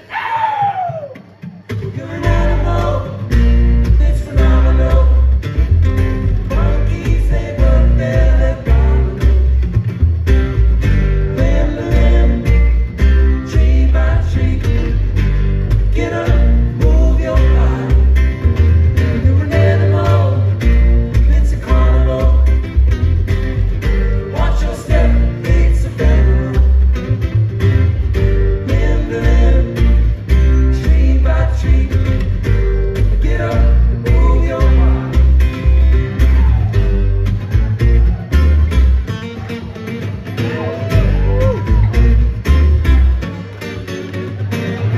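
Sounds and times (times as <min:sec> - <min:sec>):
acoustic guitars: 0:00.0 - 0:44.9
upright bass line: 0:01.8 - 0:39.2, 0:40.4 - 0:43.4.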